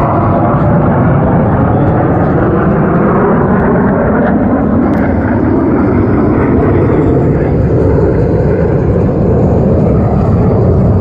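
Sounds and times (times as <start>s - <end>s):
fighter jet engines roaring: 0.0s - 11.0s.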